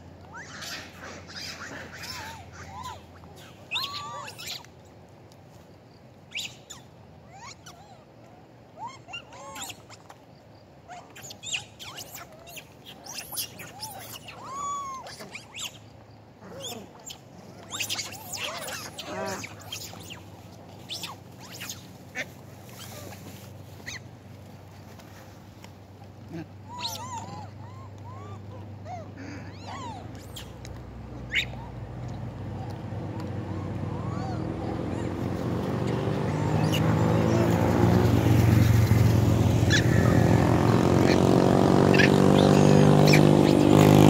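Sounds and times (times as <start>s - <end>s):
macaques squeaking and chirping: 0.2s - 4.7s, 6.3s - 8.0s, 8.8s - 10.2s, 10.9s - 24.1s, 26.3s - 40.4s, 41.9s - 43.9s.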